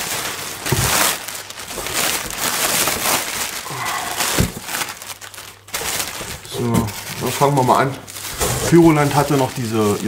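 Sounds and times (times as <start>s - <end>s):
plastic air pillows crinkling: 0.0s - 10.0s.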